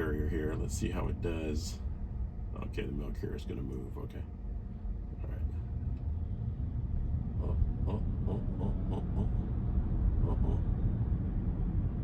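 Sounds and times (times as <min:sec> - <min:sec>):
road and tyre rumble in cabin: 0:00.0 - 0:12.0.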